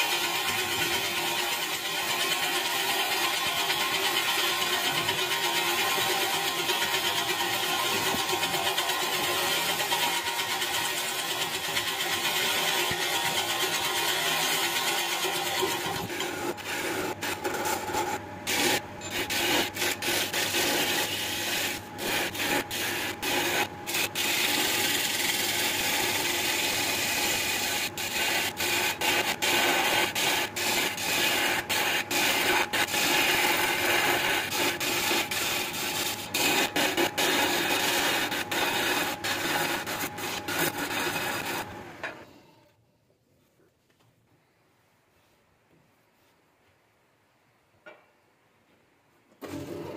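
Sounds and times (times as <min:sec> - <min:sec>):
lathe gouge cutting wood: 0:00.0 - 0:41.9.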